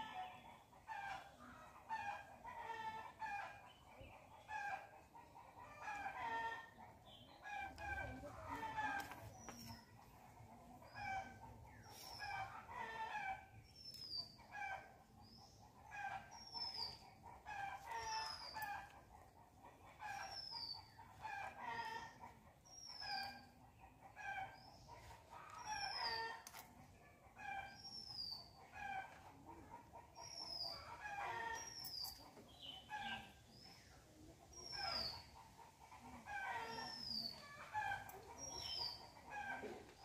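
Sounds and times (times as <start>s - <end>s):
chickens clucking and calling: 0.0s - 40.0s.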